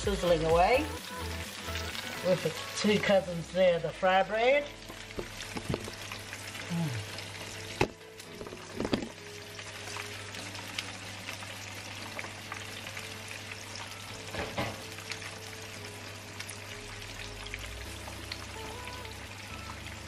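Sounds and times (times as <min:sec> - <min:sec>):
fish frying in oil: 0:00.0 - 0:20.0.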